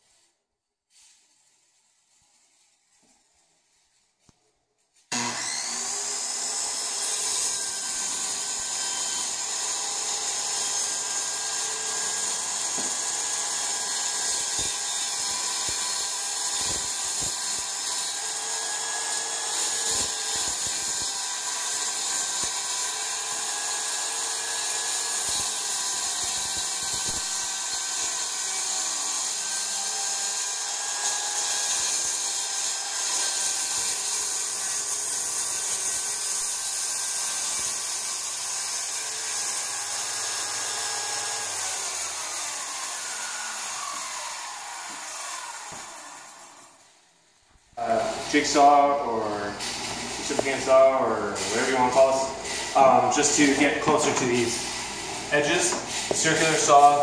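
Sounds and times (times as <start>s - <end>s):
circular saw cutting plywood: 5.1s - 46.9s, 47.8s - 57.0s.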